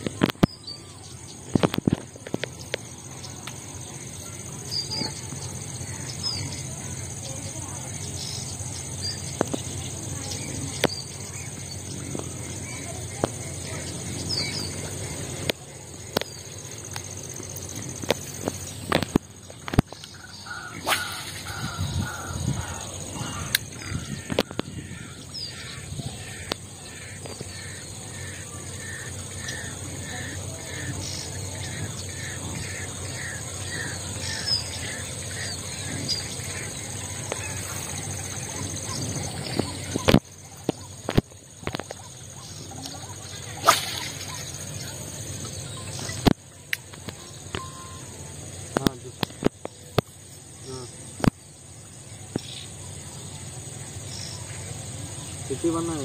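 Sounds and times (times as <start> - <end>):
steady high hum: 0.0 - 56.0
bird calling: 0.2 - 56.0.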